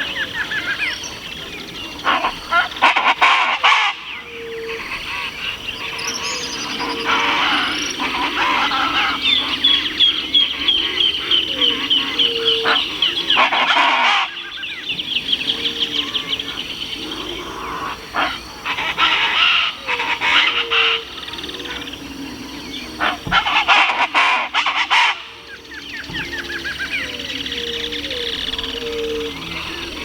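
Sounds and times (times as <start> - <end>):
flock of birds calling raucously: 0.0 - 30.0
other birds calling: 0.0 - 30.0.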